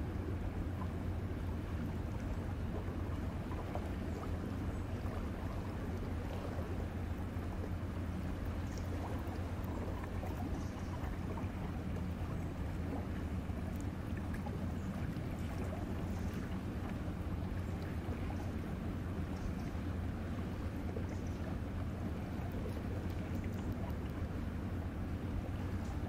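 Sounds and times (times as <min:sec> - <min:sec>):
faint water wash: 0:00.0 - 0:26.0.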